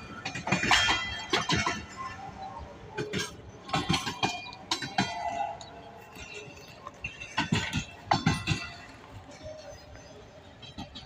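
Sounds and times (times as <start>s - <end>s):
metallic clanks of train wheels: 0.0s - 11.0s.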